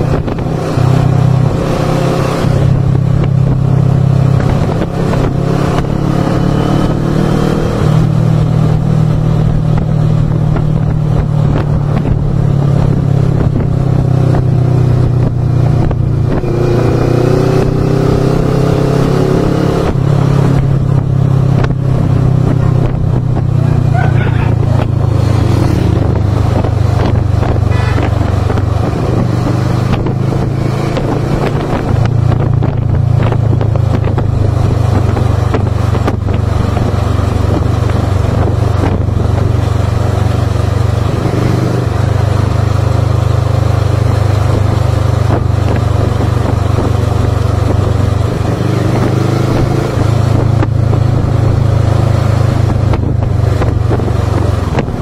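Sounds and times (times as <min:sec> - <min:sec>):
motorcycle engine running: 0:00.0 - 0:55.0
wind on microphone: 0:00.0 - 0:55.0.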